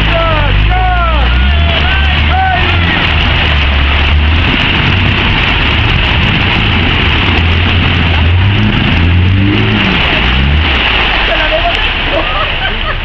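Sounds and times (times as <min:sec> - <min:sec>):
diesel engine running hard: 0:00.0 - 0:13.0
mud and water churning: 0:00.0 - 0:13.0.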